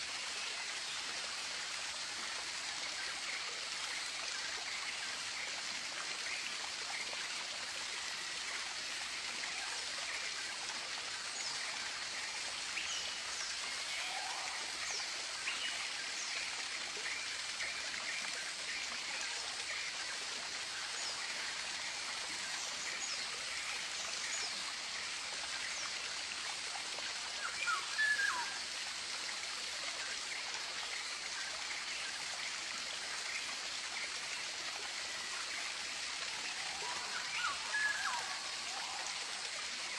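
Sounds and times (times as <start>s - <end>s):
rushing stream hiss: 0.0s - 39.9s.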